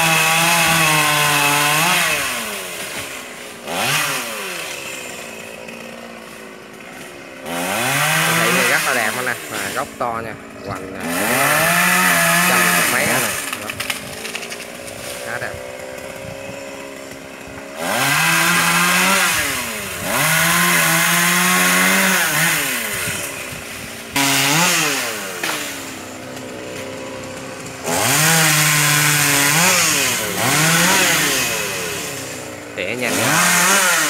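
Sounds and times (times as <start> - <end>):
chainsaw idling and revving: 0.0 - 34.0.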